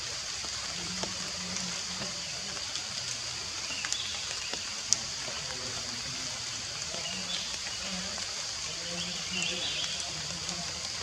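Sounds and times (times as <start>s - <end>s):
dripping water ticks: 0.0s - 11.0s
steady rain hiss: 0.0s - 11.0s.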